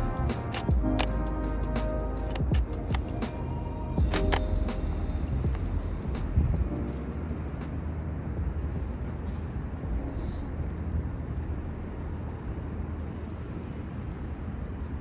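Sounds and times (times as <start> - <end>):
low rumble of city traffic: 0.0 - 15.0.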